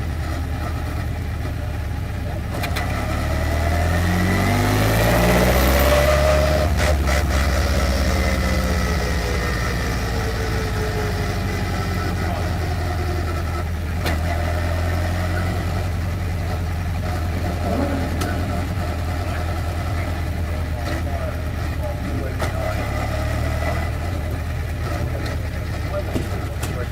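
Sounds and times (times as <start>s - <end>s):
race car engine idling: 0.0s - 26.9s.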